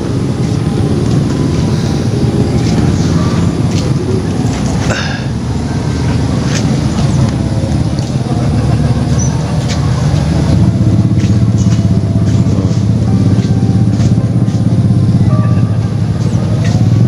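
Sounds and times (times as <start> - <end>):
motor engine rumbling: 0.0 - 17.0.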